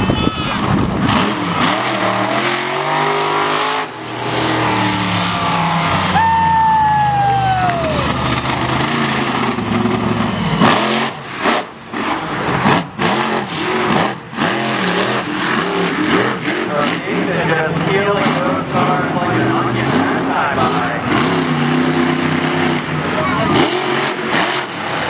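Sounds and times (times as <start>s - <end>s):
engine whine: 0.0s - 25.0s
racing engine running hard: 0.2s - 25.0s
engine revving: 0.6s - 25.0s.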